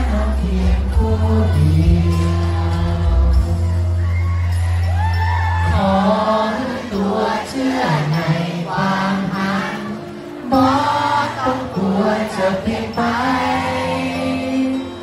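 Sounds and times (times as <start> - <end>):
man singing into microphone: 0.0 - 4.2, 5.6 - 15.0
crowd noise: 0.0 - 15.0
pop backing track: 0.0 - 15.0.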